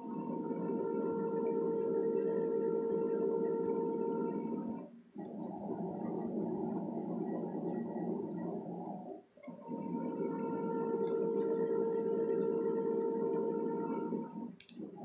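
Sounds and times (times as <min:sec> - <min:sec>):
steady hum with held tone: 0:00.0 - 0:15.0.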